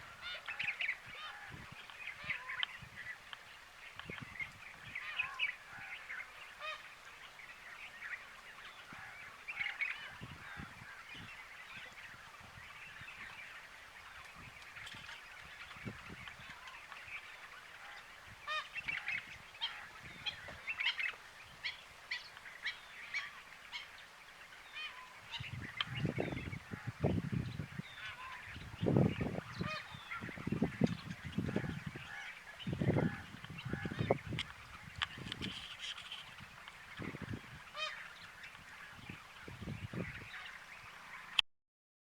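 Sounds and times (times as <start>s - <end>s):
flock of birds calling: 0.0s - 41.4s.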